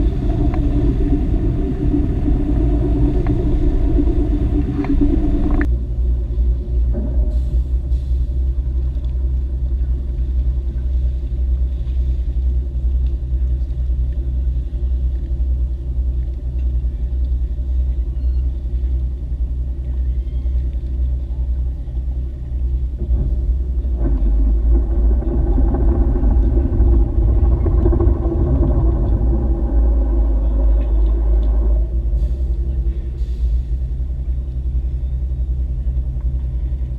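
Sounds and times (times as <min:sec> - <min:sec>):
boat engine rumbling: 0:00.0 - 0:36.9.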